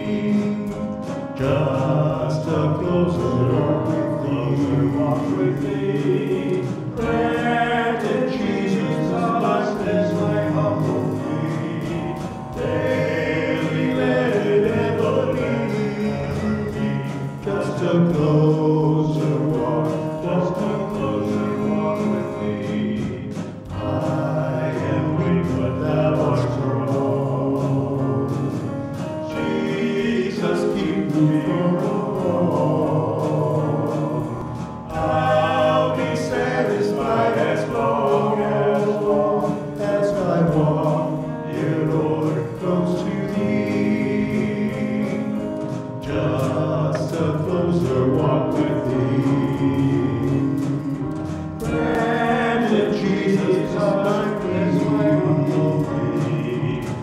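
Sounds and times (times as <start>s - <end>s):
men singing gospel song: 0.0s - 57.0s
music: 0.0s - 57.0s.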